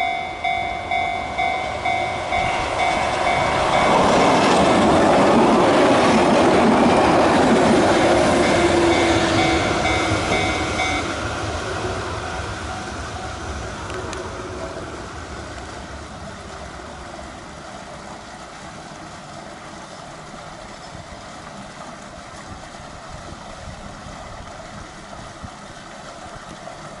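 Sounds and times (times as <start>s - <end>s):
electric train rumbling: 0.0s - 27.0s.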